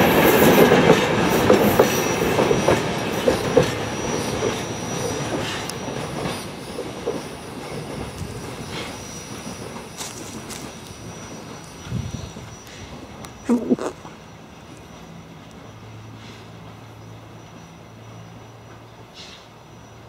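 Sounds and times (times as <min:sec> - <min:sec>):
train wheels clicking over rail joints: 0:00.0 - 0:17.0
high squeal of train: 0:00.0 - 0:20.0.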